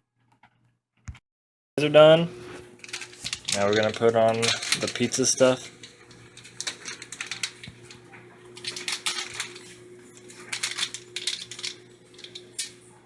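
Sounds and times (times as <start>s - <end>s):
faint steady hum: 1.8s - 13.0s.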